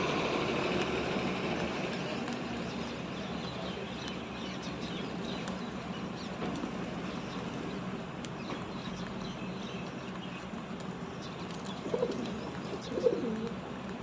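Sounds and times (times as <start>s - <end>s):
distant traffic noise: 0.0s - 14.0s.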